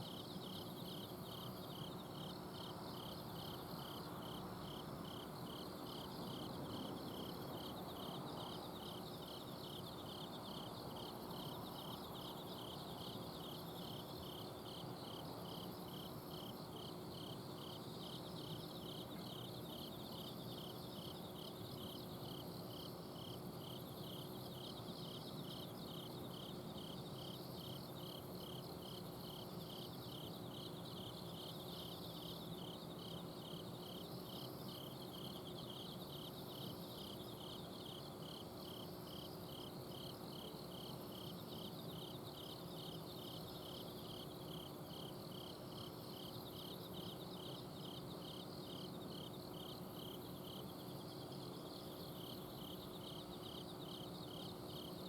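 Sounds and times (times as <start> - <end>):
insect chirping: 0.0 - 55.0
insects trilling: 0.0 - 55.0.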